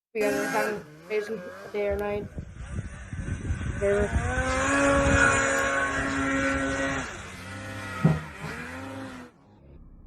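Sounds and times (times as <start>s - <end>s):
snowmobile engine running: 0.2s - 9.4s.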